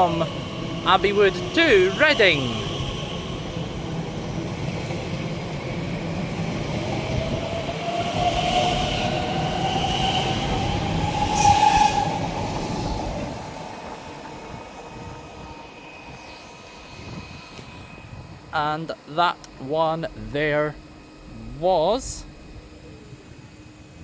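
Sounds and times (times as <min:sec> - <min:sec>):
electric train accelerating: 0:00.0 - 0:24.0.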